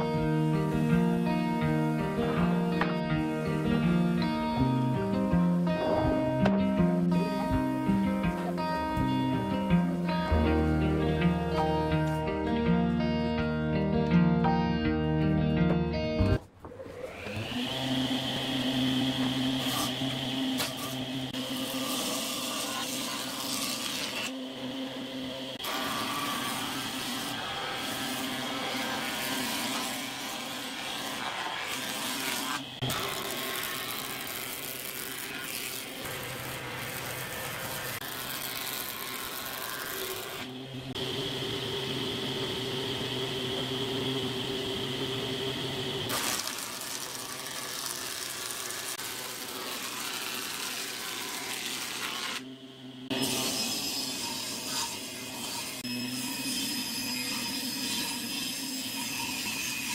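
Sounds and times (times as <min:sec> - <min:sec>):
jointer-planer humming and planing wood: 0:00.0 - 0:14.6, 0:16.7 - 0:59.9.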